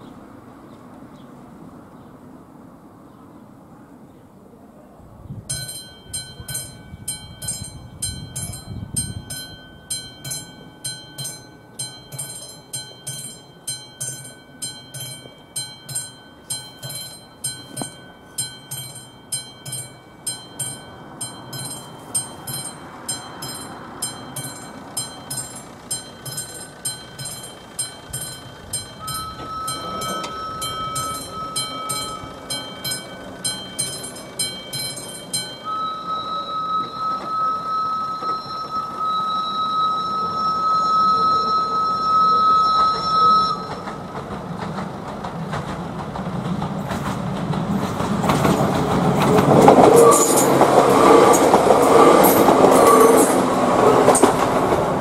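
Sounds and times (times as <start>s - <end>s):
level-crossing bell ringing: 5.5s - 44.3s, 48.6s - 55.0s.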